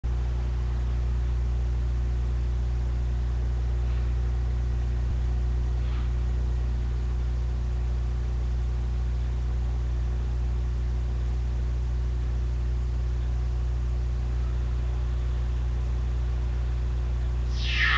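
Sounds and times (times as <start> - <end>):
steady low hum: 0.1 - 17.9.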